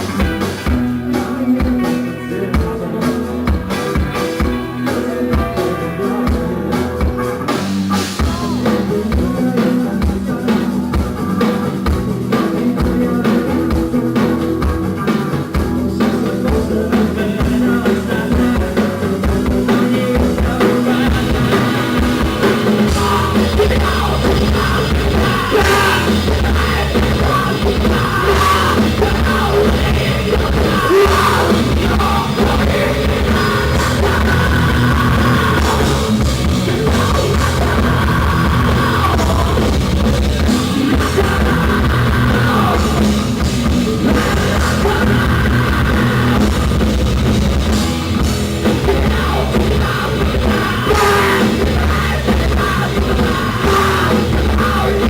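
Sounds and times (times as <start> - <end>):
person singing: 0.0 - 46.8, 48.6 - 55.0
rock band playing: 0.0 - 55.0.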